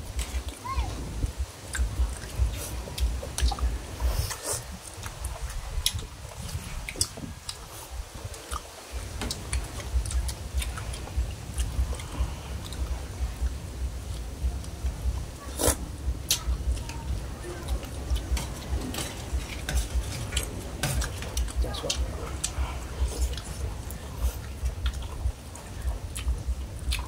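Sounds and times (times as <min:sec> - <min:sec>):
low rumble: 0:00.0 - 0:27.0
chewing and slurping: 0:01.6 - 0:27.0.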